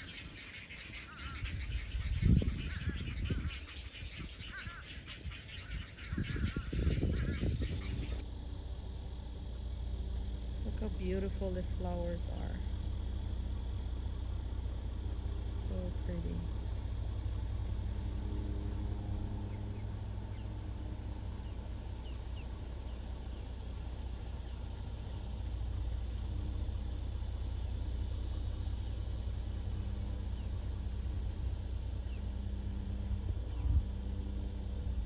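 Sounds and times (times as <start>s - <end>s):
insects chirping: 0.0s - 35.0s
low rumble: 0.9s - 35.0s.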